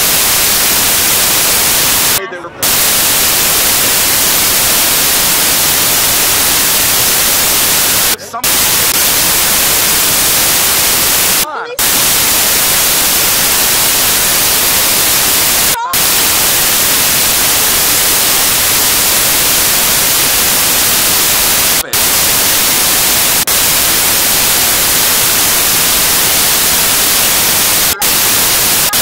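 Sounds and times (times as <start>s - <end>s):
loud static hiss: 0.0s - 29.0s.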